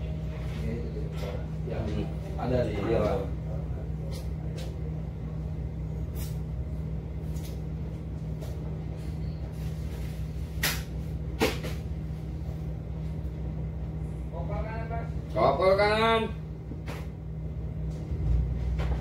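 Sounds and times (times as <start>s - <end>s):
ship engines humming: 0.0s - 19.0s.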